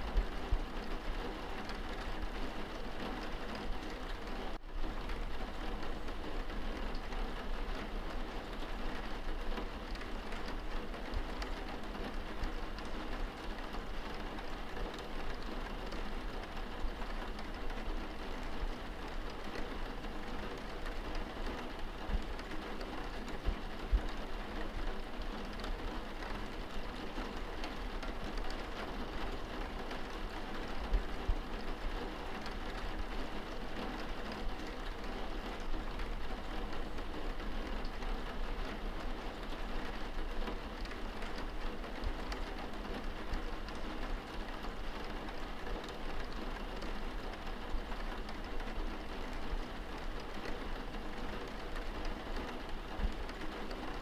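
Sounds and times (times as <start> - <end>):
rain pattering on window glass: 0.0 - 54.0.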